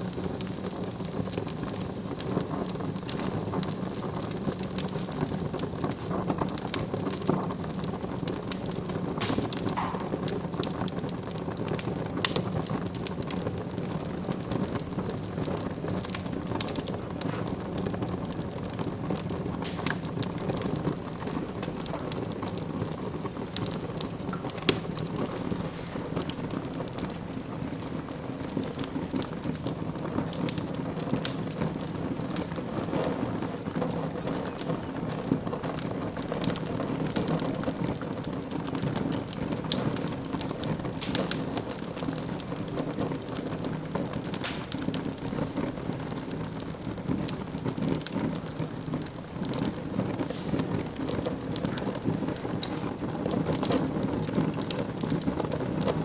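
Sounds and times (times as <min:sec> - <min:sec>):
fire crackling and popping: 0:00.0 - 0:56.0
low flame noise: 0:00.0 - 0:56.0.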